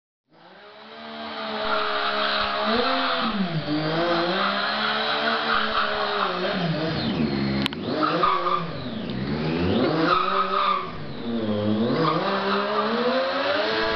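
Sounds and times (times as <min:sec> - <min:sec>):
motorcycle engine at high revs: 0:00.3 - 0:13.9.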